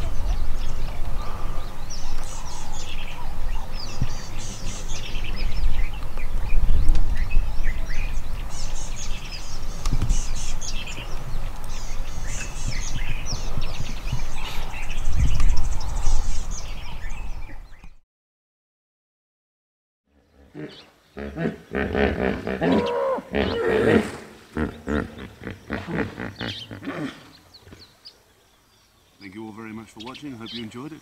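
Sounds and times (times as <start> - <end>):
small birds chirping: 0.0 - 18.0, 20.1 - 31.0.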